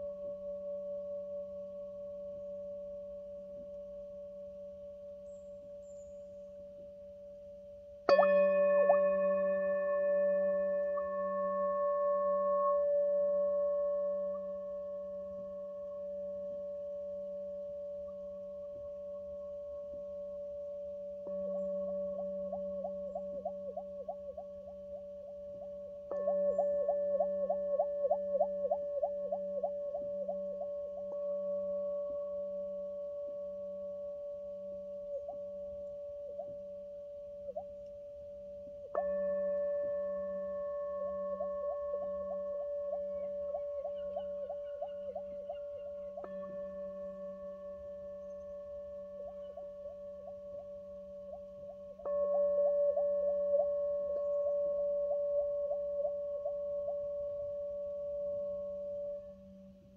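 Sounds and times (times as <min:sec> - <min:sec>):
metal singing bowl ringing: 0:00.0 - 0:59.9
singing bowl struck: 0:08.0 - 0:59.9.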